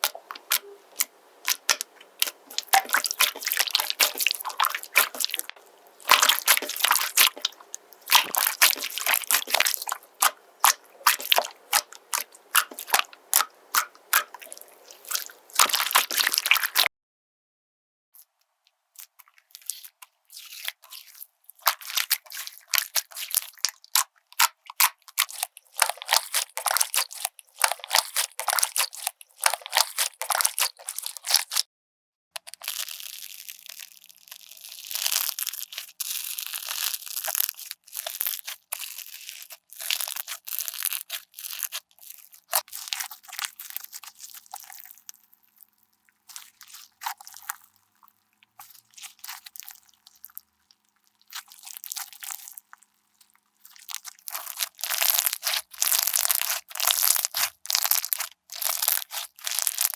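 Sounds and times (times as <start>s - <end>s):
slime crackling and crunching: 0.0s - 16.9s, 19.0s - 31.6s, 32.4s - 59.9s.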